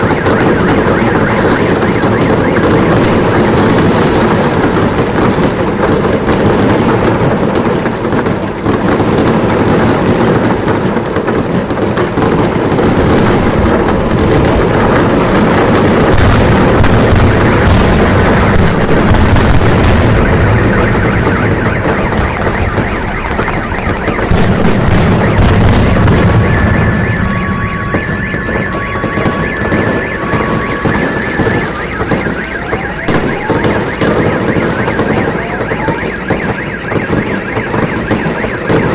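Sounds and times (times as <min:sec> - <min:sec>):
fireworks bangs and crackles: 0:00.0 - 0:38.9
two-tone car alarm: 0:00.0 - 0:38.9.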